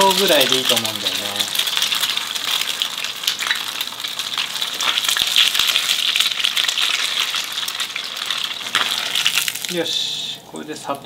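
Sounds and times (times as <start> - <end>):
fish deep-frying in oil: 0.0 - 10.2
dense crackling sizzle: 0.0 - 11.0.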